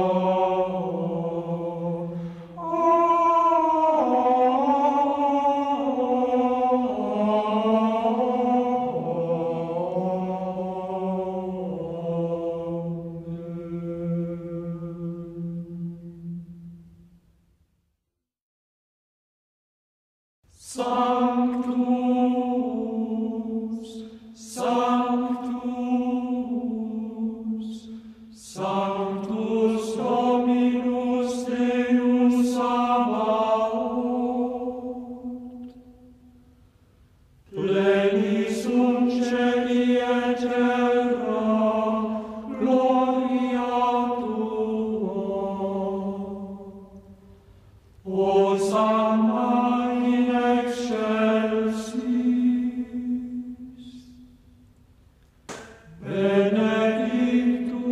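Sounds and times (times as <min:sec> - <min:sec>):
unaccompanied chanting: 0:00.0 - 0:16.4, 0:20.6 - 0:35.8, 0:37.5 - 0:47.1, 0:48.0 - 0:54.3, 0:55.5 - 0:57.9.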